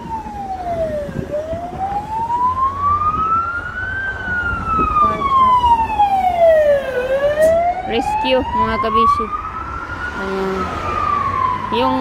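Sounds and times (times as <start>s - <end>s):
road traffic rumble: 0.0s - 12.0s
siren wailing: 0.0s - 12.0s.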